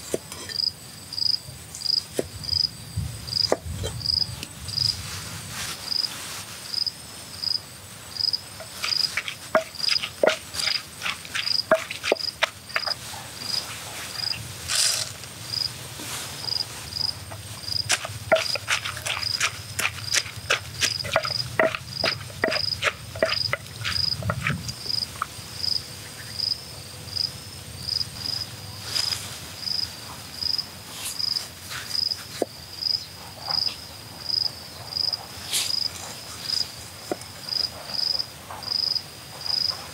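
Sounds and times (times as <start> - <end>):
insect chirping: 0.0 - 5.2, 5.8 - 39.9.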